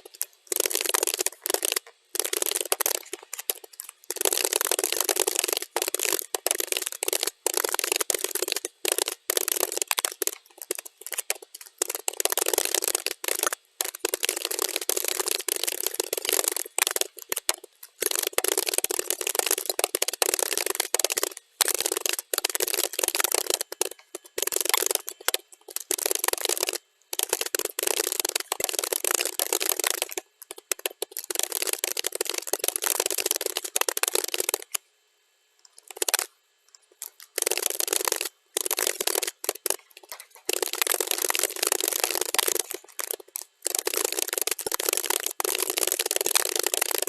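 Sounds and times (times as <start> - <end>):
rapid keyboard typing: 0.0 - 34.8, 35.6 - 47.0.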